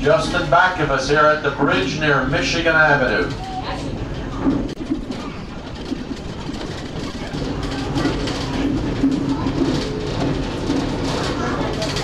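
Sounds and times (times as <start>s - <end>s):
train cars rumbling: 0.0s - 12.0s
wheels clicking on rails: 0.0s - 12.0s.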